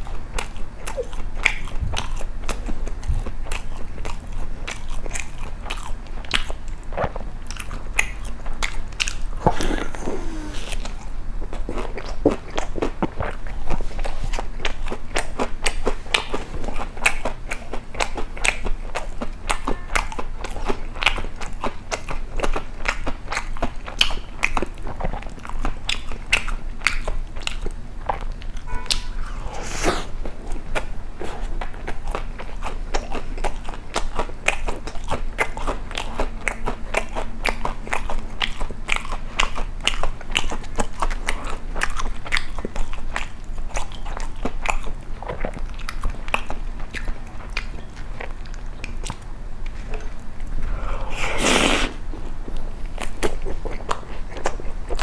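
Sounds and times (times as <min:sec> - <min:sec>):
chewing crisp toast: 0:00.0 - 0:55.0.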